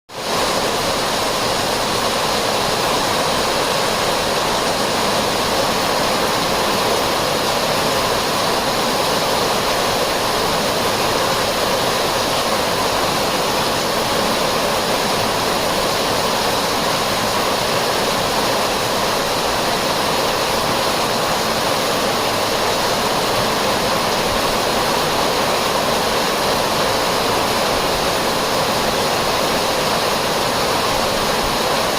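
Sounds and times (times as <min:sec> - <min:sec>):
heavy rain pouring: 0:00.1 - 0:31.9.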